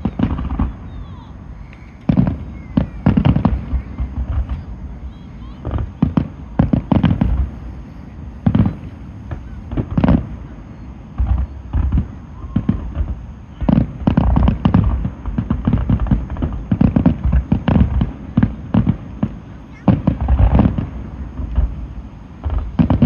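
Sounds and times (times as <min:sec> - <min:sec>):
crackling fireworks reports: 0:00.0 - 0:23.0
fireworks booms and bangs: 0:00.0 - 0:23.0.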